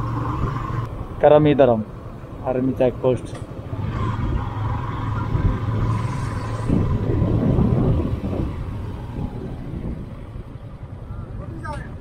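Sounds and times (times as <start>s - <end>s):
car engine and tyre hum: 0.0s - 12.0s.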